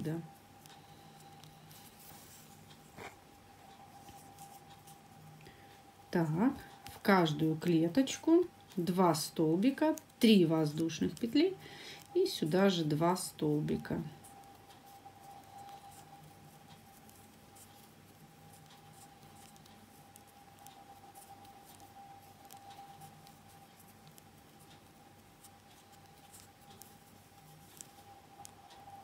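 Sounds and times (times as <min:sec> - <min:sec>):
crochet hook ticks and rustles: 0:00.0 - 0:29.0
faint steady hum: 0:00.0 - 0:29.0.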